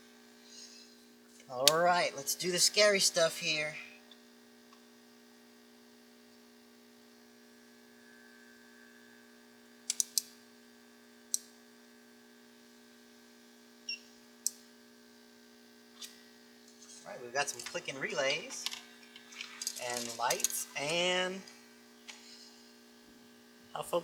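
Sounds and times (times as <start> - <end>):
mains hum: 0.0 - 24.0.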